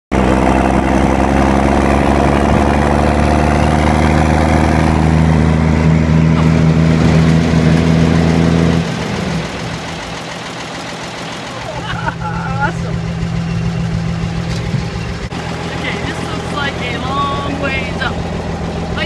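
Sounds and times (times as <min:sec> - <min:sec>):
truck engine idling: 0:00.1 - 0:19.0.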